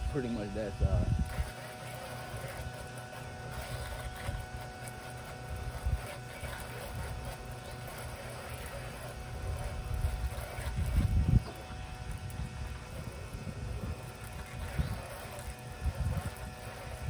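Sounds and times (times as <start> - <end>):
pressure washer spraying: 1.2 - 17.0.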